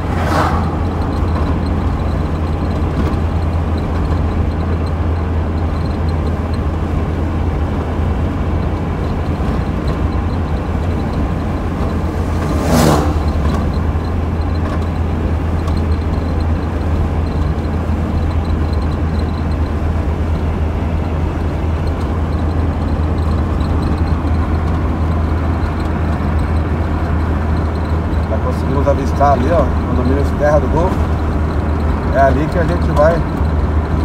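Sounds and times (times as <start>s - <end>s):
car road and engine drone: 0.0s - 34.0s.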